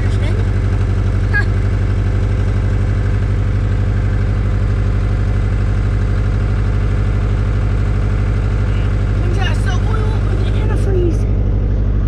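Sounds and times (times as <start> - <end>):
engine running with rod knock: 0.0 - 12.0.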